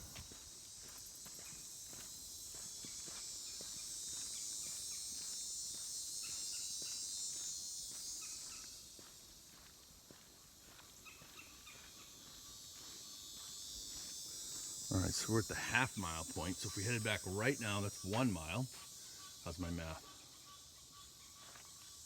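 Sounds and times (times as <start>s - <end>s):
footsteps on trail: 0.0s - 20.0s, 21.3s - 22.0s
insects droning: 0.0s - 22.0s.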